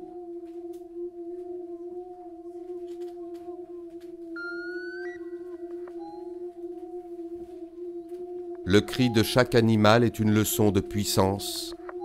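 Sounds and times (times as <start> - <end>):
electronic drone: 0.0 - 12.0.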